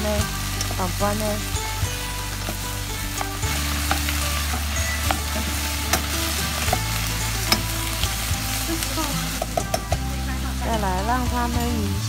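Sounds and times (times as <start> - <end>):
cabbage sizzling in a pot: 0.0 - 12.0.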